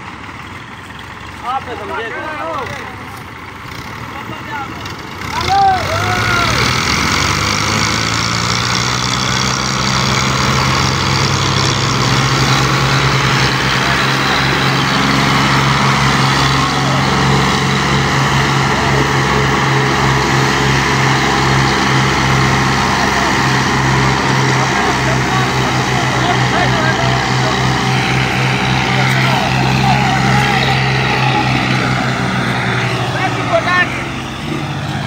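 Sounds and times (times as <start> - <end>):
diesel tractor engines revving: 0.0 - 35.0.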